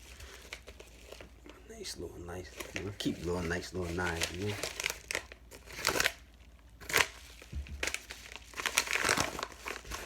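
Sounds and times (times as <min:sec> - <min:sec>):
packaging crinkling: 0:00.0 - 0:01.6, 0:02.3 - 0:10.0.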